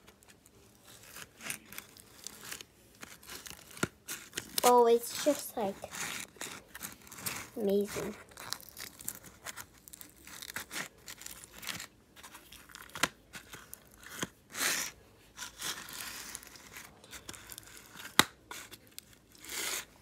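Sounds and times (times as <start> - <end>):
hands squishing foam ball slime: 0.0 - 20.0.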